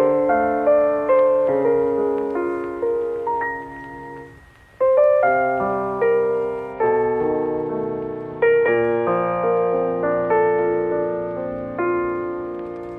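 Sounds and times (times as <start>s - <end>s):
slow piano chords: 0.0s - 12.9s.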